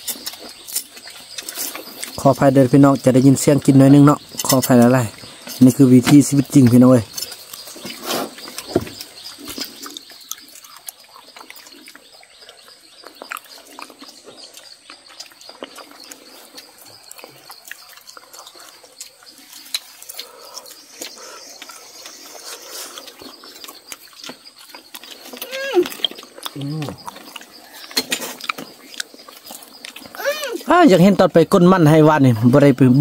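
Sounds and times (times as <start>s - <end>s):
people chewing and lip smacking: 0.0s - 30.8s.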